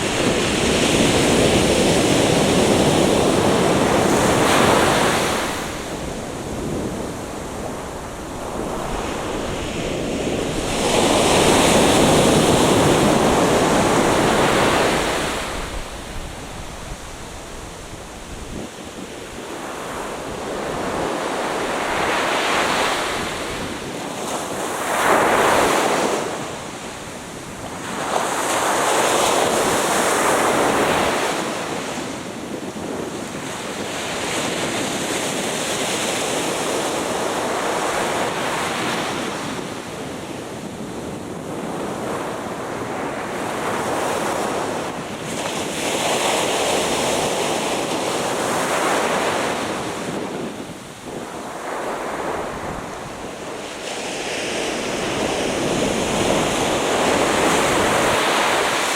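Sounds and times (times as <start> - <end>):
ocean surf breaking on beach: 0.0 - 58.9.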